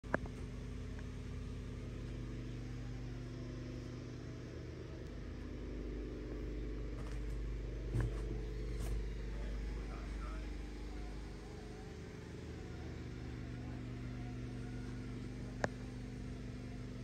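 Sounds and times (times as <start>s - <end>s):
wood lathe motor humming: 0.1s - 17.0s.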